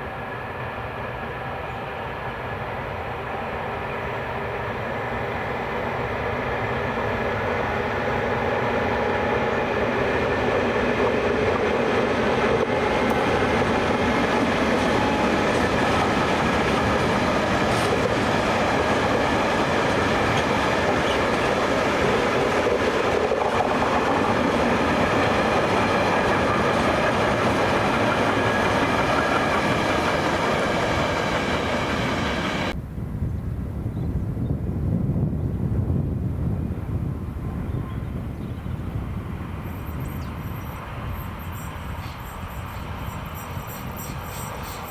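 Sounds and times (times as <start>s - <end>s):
train wheels rolling on rails: 0.0s - 32.8s, 38.8s - 44.9s.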